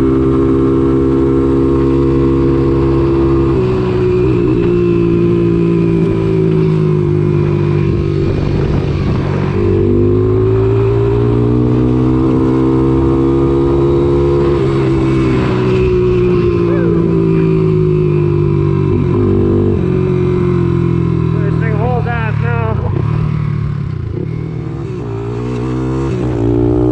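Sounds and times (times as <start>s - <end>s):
engine running: 0.0s - 26.9s.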